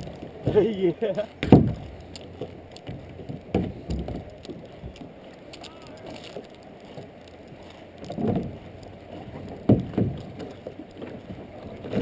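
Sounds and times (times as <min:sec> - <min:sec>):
water sloshing around kayak: 0:00.0 - 0:12.0.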